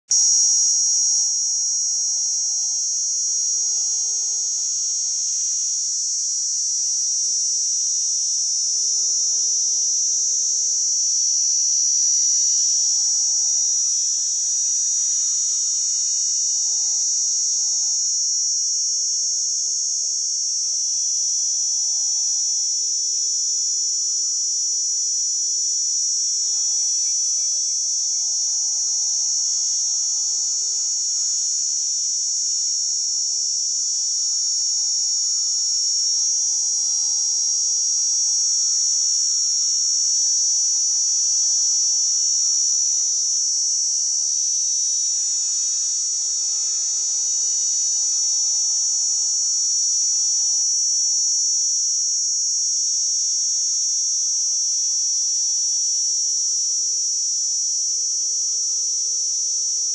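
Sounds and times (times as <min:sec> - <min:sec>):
cicada buzzing: 0:00.1 - 0:51.4.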